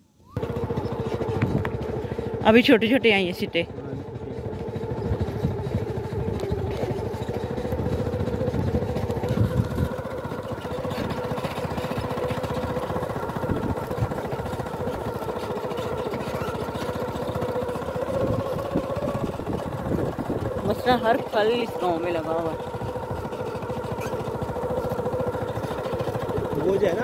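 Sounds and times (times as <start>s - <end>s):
vehicle engine humming: 0.1s - 27.0s.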